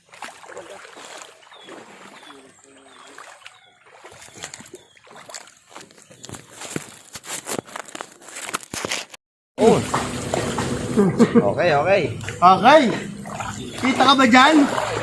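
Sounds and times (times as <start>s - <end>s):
water splashing in a stream: 0.0s - 7.9s, 9.6s - 11.0s, 12.1s - 15.0s.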